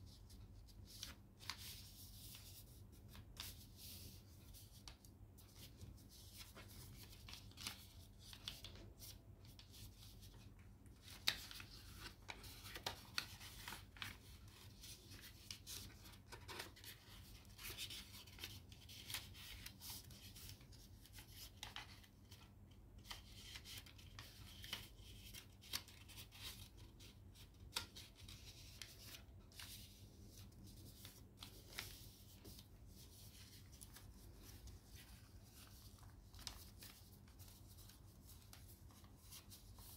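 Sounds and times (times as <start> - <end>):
paper rustling and crinkling: 0.3 - 39.9.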